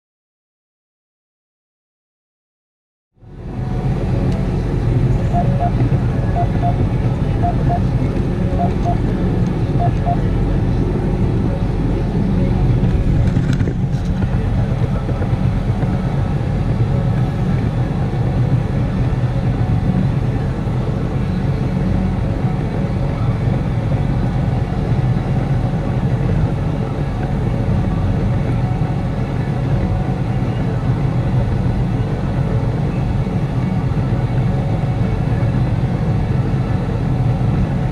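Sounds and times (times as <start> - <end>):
tractor diesel engine droning: 3.2 - 37.9.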